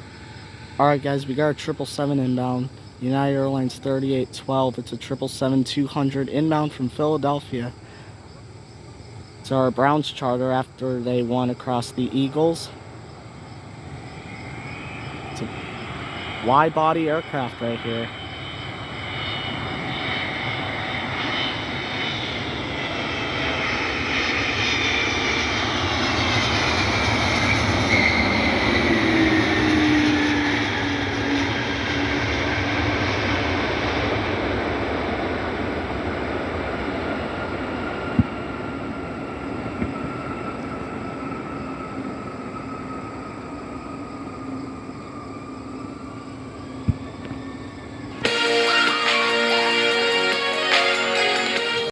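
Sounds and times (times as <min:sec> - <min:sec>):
jet airliner passing: 0:00.0 - 0:51.9.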